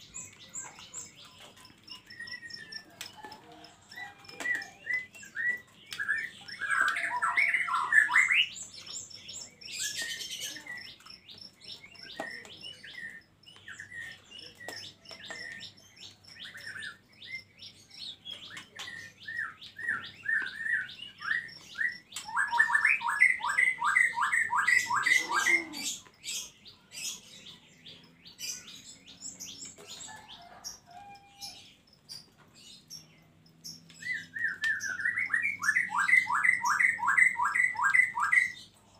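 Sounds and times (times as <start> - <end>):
songbirds chirping and calling: 0.0 - 38.9.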